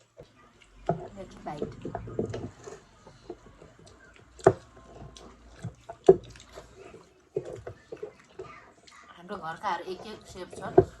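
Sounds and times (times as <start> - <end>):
person chewing: 0.0 - 9.2.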